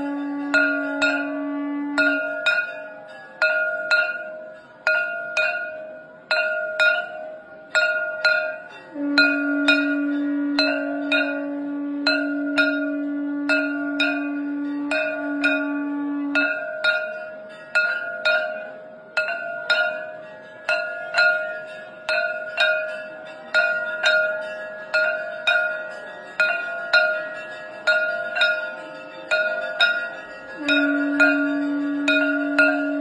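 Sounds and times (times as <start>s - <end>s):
conch shell blown: 0.0s - 5.8s, 6.5s - 33.0s
hand bell ringing: 0.0s - 33.0s.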